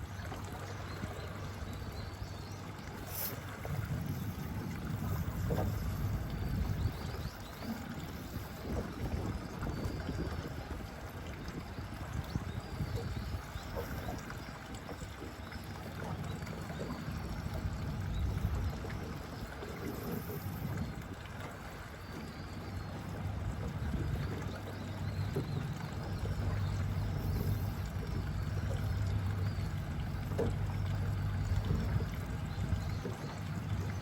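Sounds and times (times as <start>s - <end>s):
boat engine humming: 0.0s - 34.0s
water noise: 0.0s - 34.0s.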